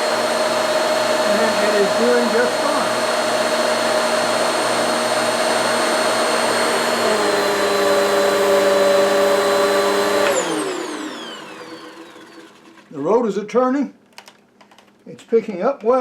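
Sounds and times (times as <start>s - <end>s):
upright vacuum cleaner running: 0.0s - 13.2s.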